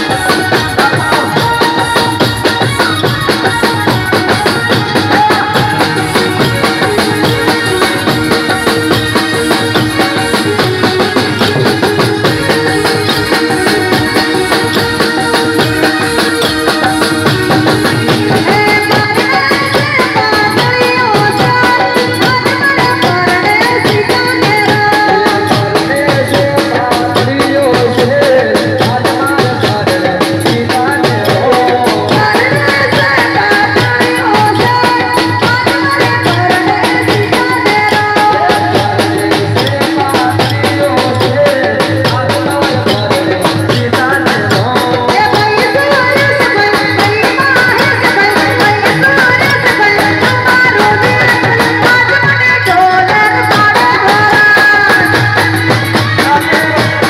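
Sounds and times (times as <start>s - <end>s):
accompanying instruments: 0.0s - 57.0s
dhol drum beat: 0.0s - 57.0s
woman singing into a microphone: 0.0s - 57.0s.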